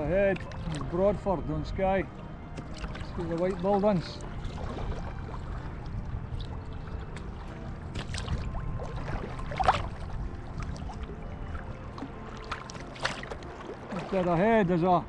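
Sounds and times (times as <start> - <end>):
low water rush: 0.0 - 15.0
paddle blades splashing water: 0.0 - 15.0.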